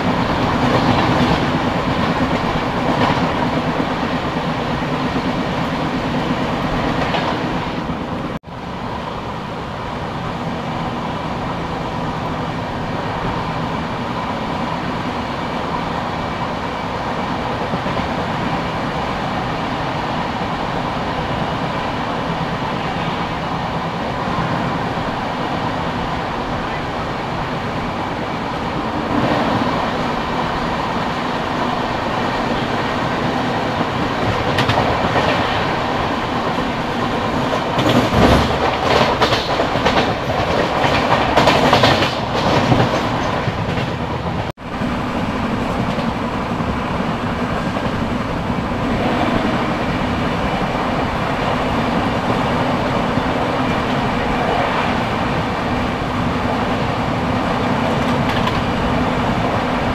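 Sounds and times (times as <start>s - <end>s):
passing train clattering: 0.0s - 59.9s
train wheels rumbling with clickety-clack: 0.0s - 59.9s.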